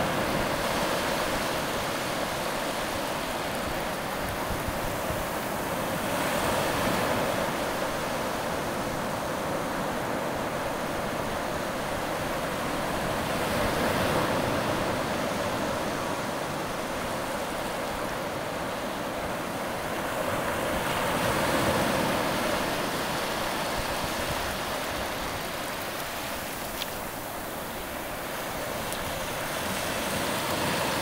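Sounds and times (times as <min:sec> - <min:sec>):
surf washing over sand: 0:00.0 - 0:31.0.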